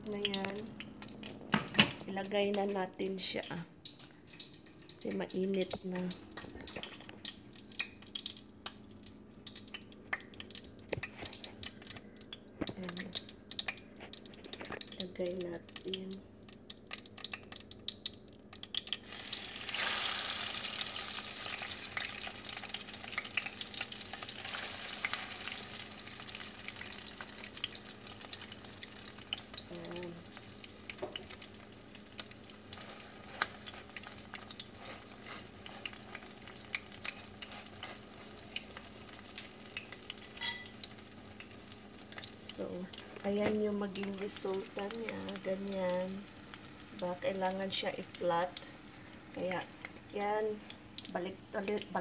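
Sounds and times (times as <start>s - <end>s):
food sizzling in hot oil: 3.8s - 52.0s.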